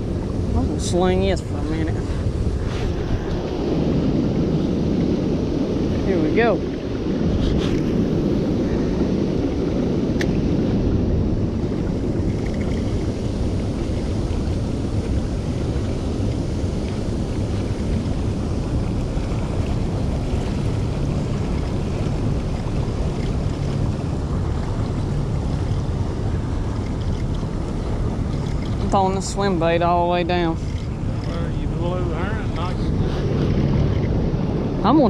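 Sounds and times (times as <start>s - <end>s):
outboard motor running: 0.0s - 35.0s
water rushing past hull: 0.0s - 35.0s
wind buffeting microphone: 0.0s - 35.0s.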